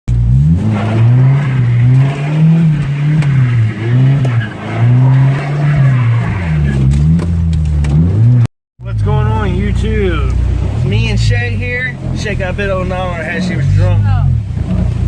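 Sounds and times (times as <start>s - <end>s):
truck engine revving: 0.1s - 15.0s
tyres skidding on wet pavement: 0.2s - 15.0s.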